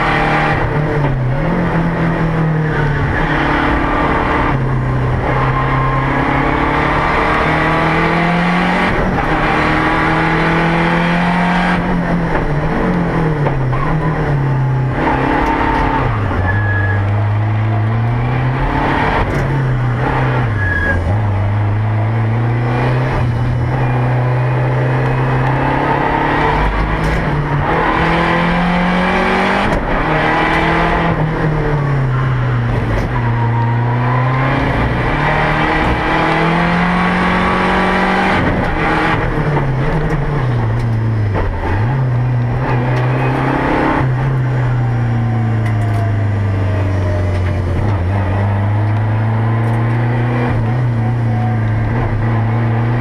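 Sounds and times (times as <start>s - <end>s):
rally car engine revving: 0.0s - 53.0s
road and drivetrain noise: 0.0s - 53.0s.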